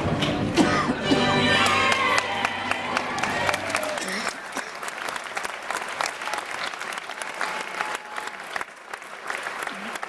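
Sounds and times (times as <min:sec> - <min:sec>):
audience clapping: 0:01.5 - 0:10.0.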